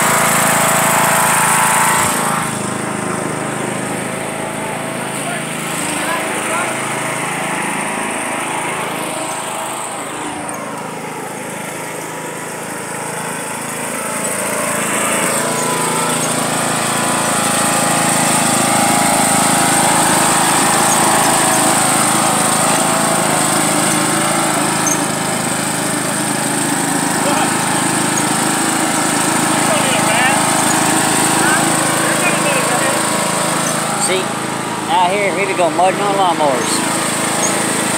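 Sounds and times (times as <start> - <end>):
riding lawn mower engine running: 0.0 - 37.9.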